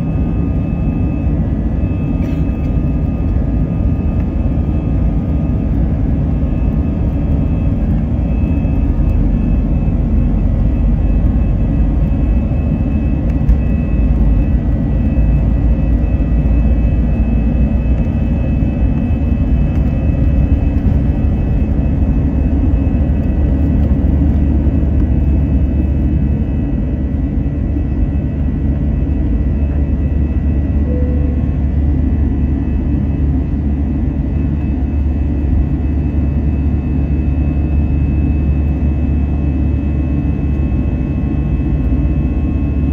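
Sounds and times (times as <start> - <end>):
high jet engine whine: 0.0 - 42.9
jet engines rumbling: 0.0 - 42.9.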